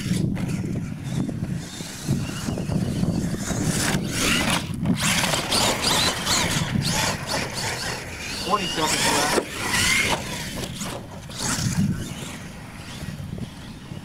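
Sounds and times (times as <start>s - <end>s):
tyres rumbling on dirt: 0.0s - 13.6s
outdoor noise: 0.0s - 14.0s
toy truck motor whining: 0.0s - 14.0s.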